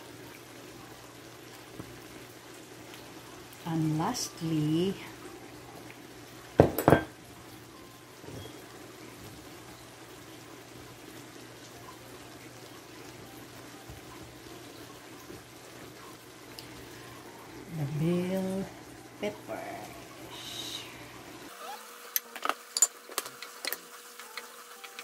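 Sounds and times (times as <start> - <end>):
pan simmering with bubbling hiss: 0.0 - 25.0.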